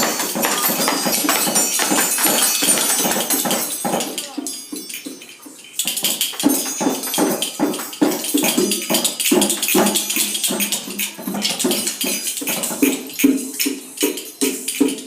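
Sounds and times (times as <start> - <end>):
hand percussion strikes: 0.0 - 15.0
jingling shimmer: 0.0 - 15.0.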